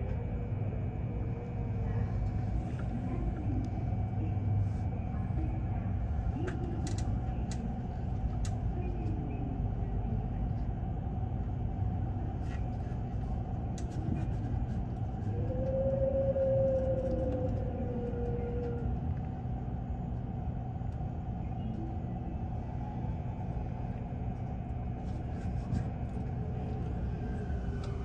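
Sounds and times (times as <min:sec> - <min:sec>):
constant hum: 0:00.0 - 0:28.0
low rumble: 0:00.0 - 0:28.0.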